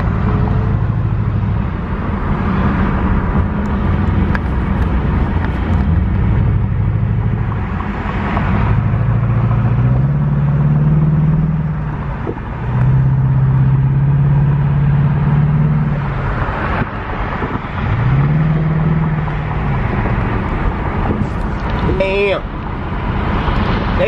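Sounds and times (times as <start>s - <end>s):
car engine droning: 0.0s - 24.0s
tyre and road noise: 0.0s - 24.0s.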